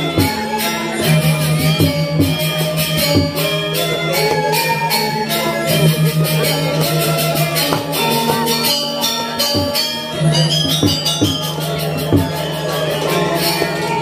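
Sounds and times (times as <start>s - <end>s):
bamboo flutes: 0.0s - 14.0s
drum strokes: 0.0s - 14.0s
metallophones ringing: 0.0s - 14.0s.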